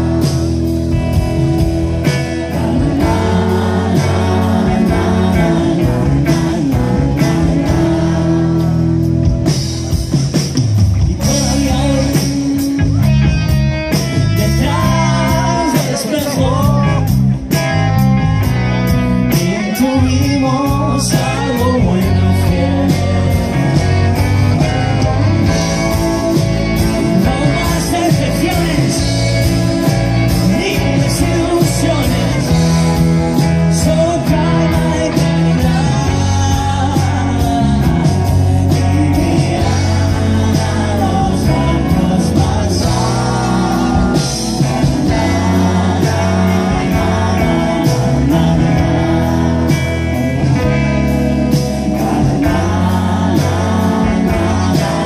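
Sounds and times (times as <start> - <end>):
live rock band playing: 0.0 - 55.0
person singing lead vocal: 0.0 - 55.0.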